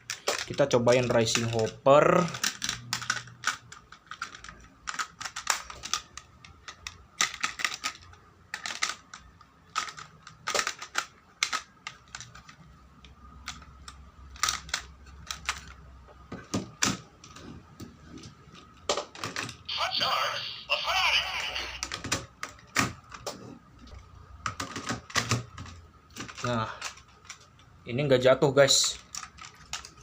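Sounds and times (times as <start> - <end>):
plastic toy parts clicking: 0.0 - 15.8, 18.6 - 27.7, 28.6 - 30.0.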